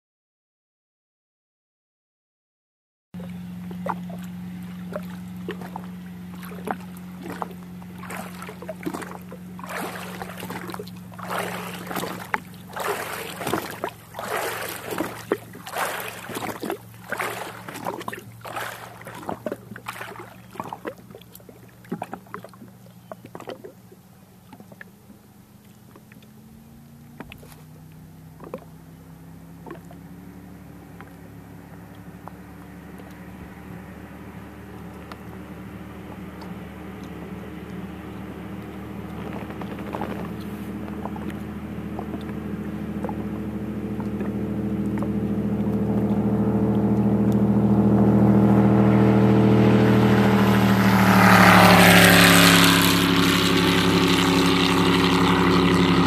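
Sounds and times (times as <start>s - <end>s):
water slapping against boat hull: 3.2s - 33.3s, 36.0s - 48.1s, 48.8s - 56.0s
distant powerboat engine: 3.2s - 56.0s
low engine hum: 3.2s - 56.0s.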